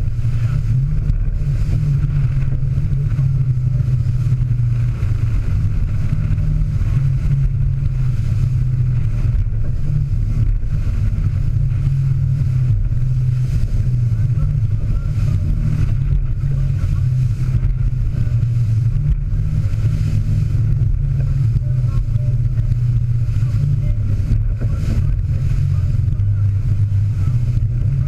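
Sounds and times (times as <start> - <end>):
boat engines droning: 0.0 - 28.0
water rushing along hull: 0.0 - 28.0.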